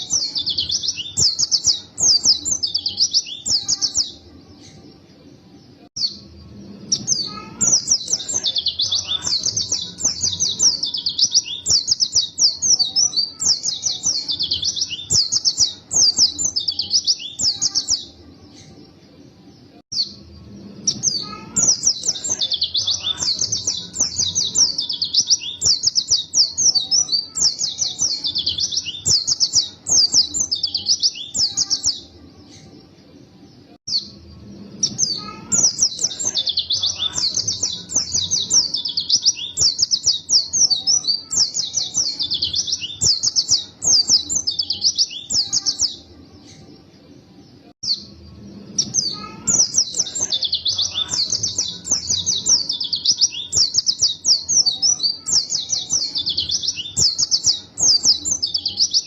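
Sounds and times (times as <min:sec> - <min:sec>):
bird twittering song: 0:00.0 - 0:46.8, 0:47.8 - 0:59.0.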